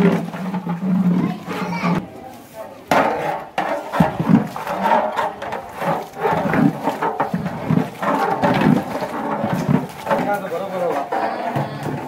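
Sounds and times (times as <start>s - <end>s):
metal ladle stirring and scraping pot: 0.0s - 12.0s.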